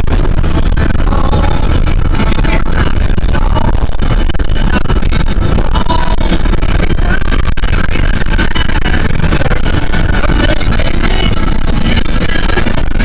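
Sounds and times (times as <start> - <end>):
music: 0.0 - 13.0
vehicle noise: 0.0 - 13.0.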